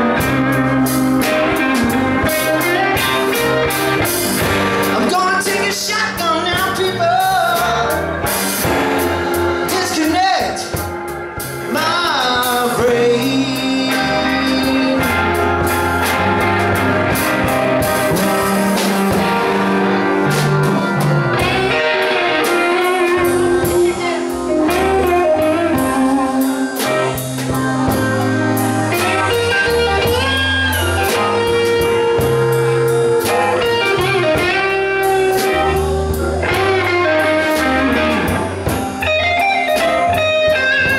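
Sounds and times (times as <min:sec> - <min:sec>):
bass guitar: 0:00.0 - 0:40.9
drum kit with cymbals: 0:00.0 - 0:40.9
electric guitar: 0:00.0 - 0:40.9
keyboard: 0:00.0 - 0:40.9.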